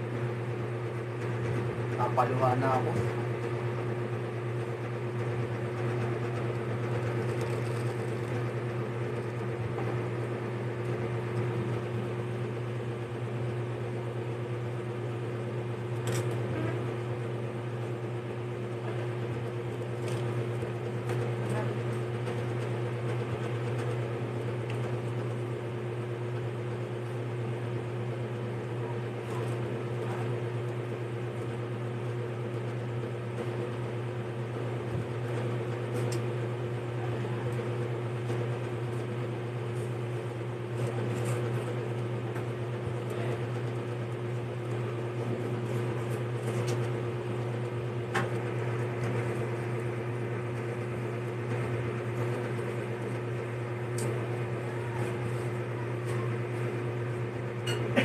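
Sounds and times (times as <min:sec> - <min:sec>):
motor humming: 0:00.0 - 0:58.0.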